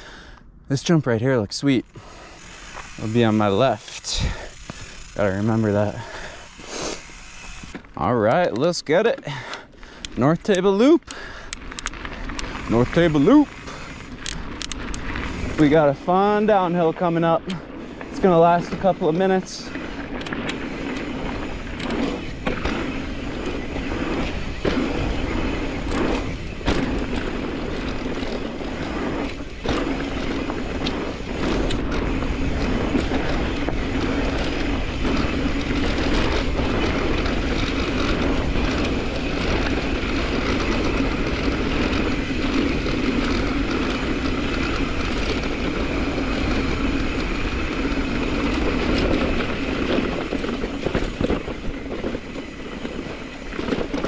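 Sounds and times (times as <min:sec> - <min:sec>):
bike tyre and wind rush: 0:00.0 - 0:54.0
bike clattering over bumps: 0:01.9 - 0:54.0.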